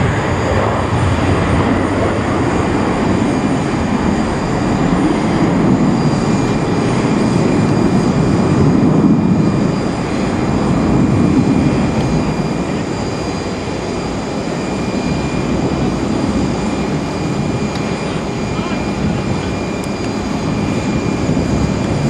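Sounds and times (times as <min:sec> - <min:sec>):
high jet whine: 0:00.0 - 0:22.0
jet engine roar: 0:00.0 - 0:22.0.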